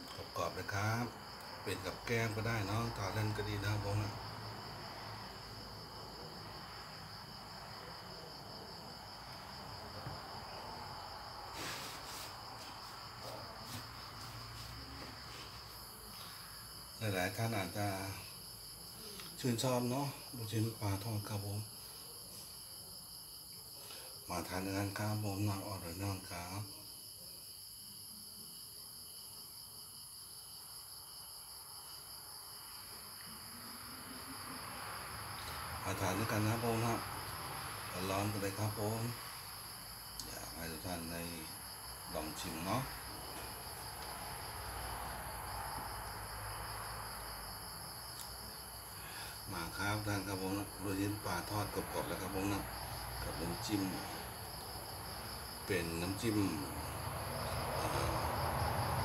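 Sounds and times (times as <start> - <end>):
crickets trilling: 0.0 - 59.0
insects chirring: 0.0 - 59.0.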